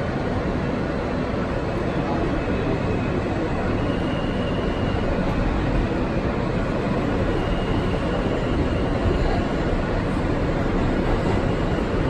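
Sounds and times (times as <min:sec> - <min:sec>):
subway car running on rails: 0:00.0 - 0:12.0.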